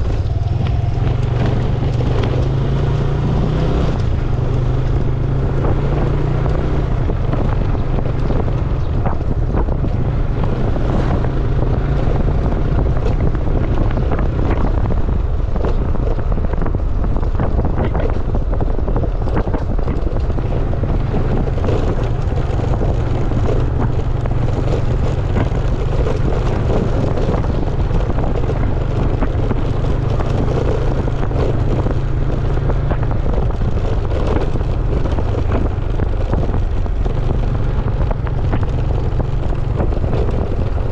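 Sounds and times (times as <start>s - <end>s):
scooter engine running: 0.0s - 40.9s
wind rumbling on microphone: 0.0s - 40.9s.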